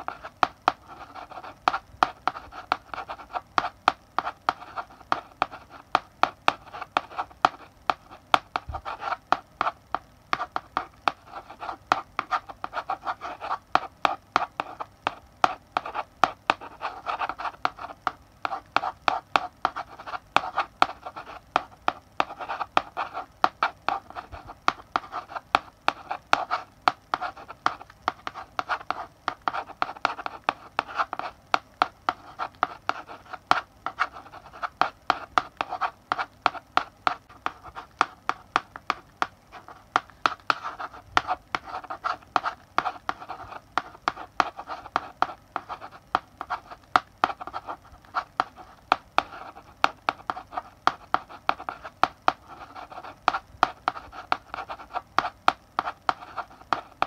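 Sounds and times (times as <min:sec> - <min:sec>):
chalk scratching on blackboard: 0:00.0 - 0:57.0
chalk tapping on blackboard: 0:00.0 - 0:57.0.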